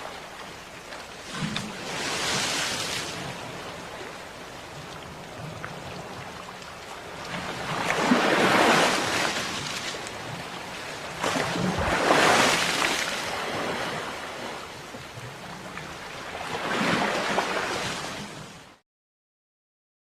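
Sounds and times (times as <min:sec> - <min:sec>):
sea waves washing onto shore: 0:00.0 - 0:18.8.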